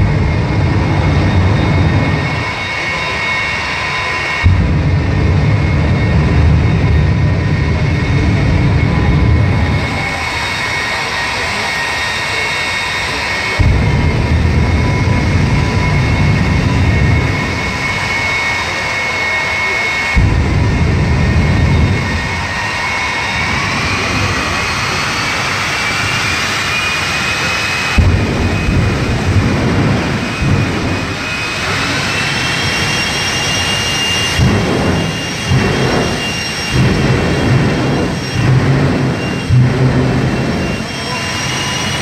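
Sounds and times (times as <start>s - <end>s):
rocket engine whine: 0.0s - 42.0s.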